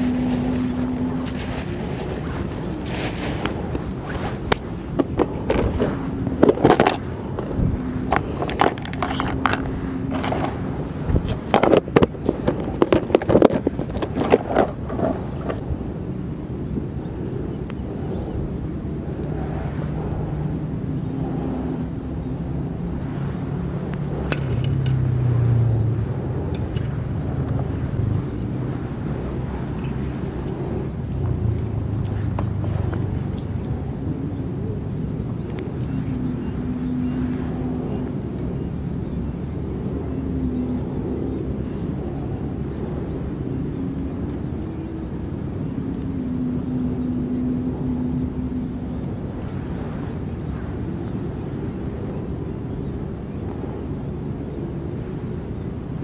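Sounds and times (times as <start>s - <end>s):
motor engine drone passing by: 0.0s - 12.1s, 14.9s - 56.0s.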